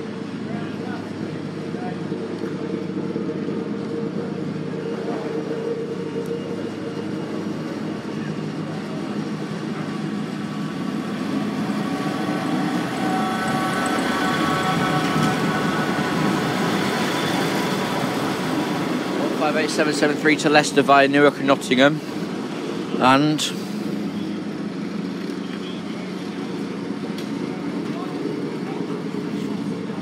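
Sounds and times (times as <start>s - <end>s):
diesel train engines droning: 0.0s - 30.0s
high-pitched train whine: 0.0s - 30.0s.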